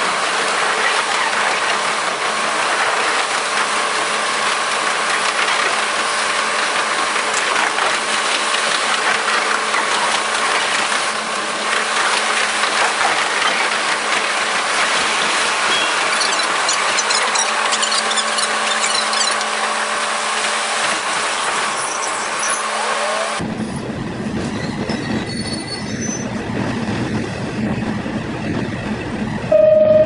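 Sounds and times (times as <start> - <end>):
sped-up train mechanical rattle: 0.0 - 29.6.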